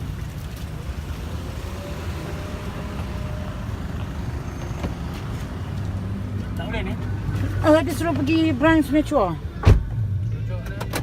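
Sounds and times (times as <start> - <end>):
rumble of slow road traffic: 0.0 - 11.0.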